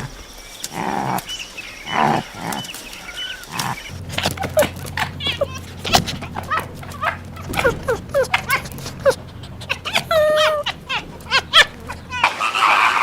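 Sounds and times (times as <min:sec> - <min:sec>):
dog whining: 0:00.7 - 0:13.0
dog yelping: 0:01.9 - 0:13.0
geese honking: 0:01.9 - 0:13.0.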